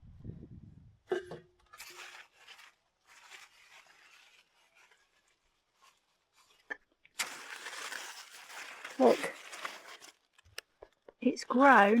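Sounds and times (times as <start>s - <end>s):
leaves and stems rustling: 1.8s - 12.0s.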